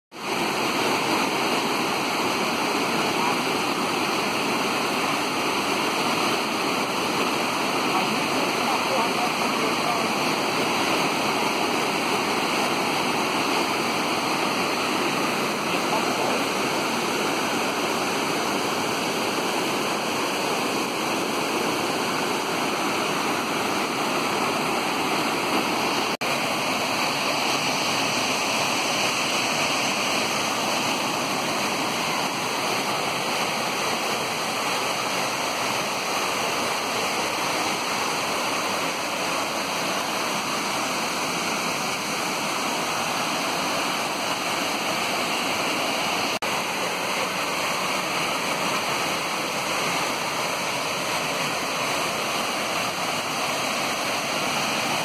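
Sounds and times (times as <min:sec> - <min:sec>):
waterfall rushing: 0:00.1 - 0:55.0.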